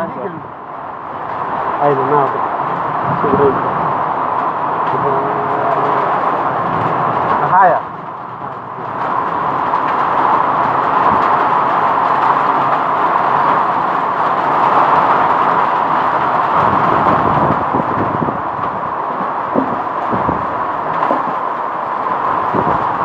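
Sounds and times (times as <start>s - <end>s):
low buffeting gusts: 0.0s - 23.0s
strong wind rushing: 0.0s - 23.0s.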